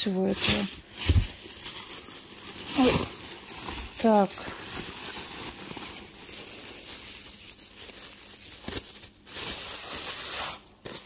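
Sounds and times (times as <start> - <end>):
bubble wrap crinkling: 0.0 - 11.0
plastic bag rustling: 0.0 - 11.0.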